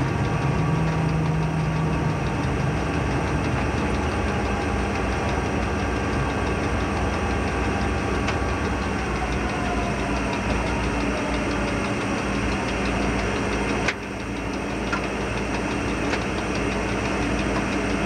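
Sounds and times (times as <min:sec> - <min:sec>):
diesel locomotive engine running: 0:00.0 - 0:18.0
train rumbling on rails: 0:00.0 - 0:18.0.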